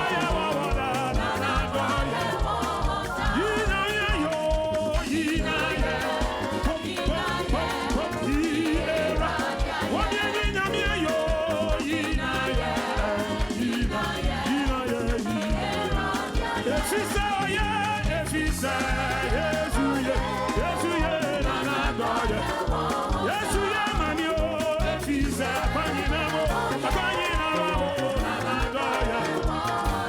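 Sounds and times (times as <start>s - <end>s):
band playing drum and bass beat: 0.0s - 30.0s
person singing with vibrato: 0.0s - 30.0s.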